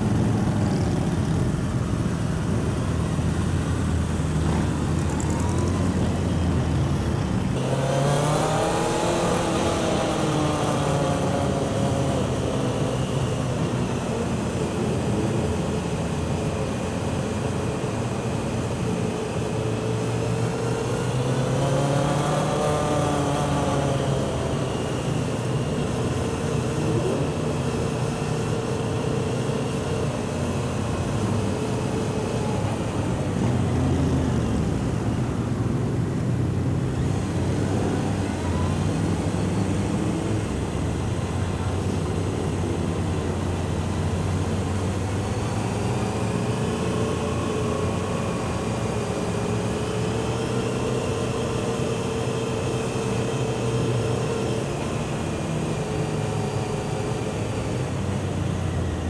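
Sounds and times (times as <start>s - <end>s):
other motorcycles: 0.0s - 59.0s.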